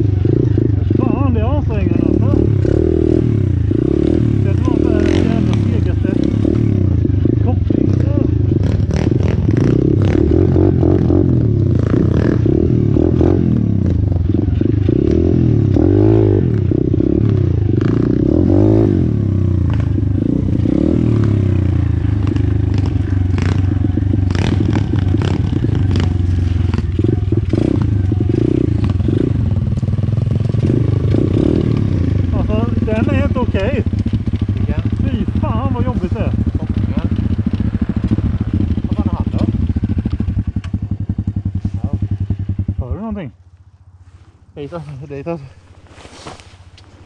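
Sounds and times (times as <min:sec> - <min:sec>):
motorbike engine revving: 0:00.0 - 0:43.4.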